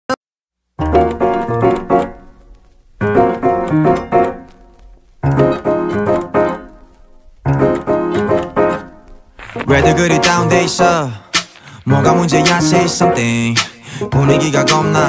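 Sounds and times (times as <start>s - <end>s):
piano chords: 0.8s - 15.0s.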